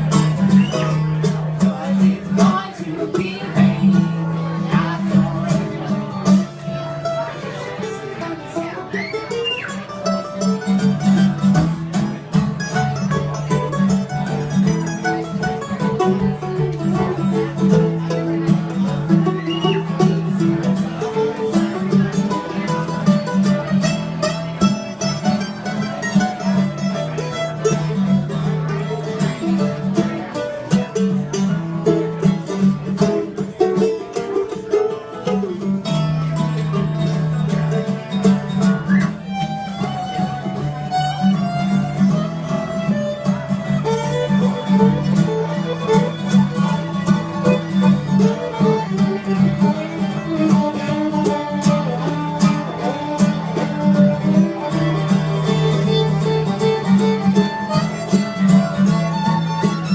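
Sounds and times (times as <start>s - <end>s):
banjo: 0.0s - 59.9s
fiddle: 0.0s - 59.9s
guitar: 0.0s - 59.9s.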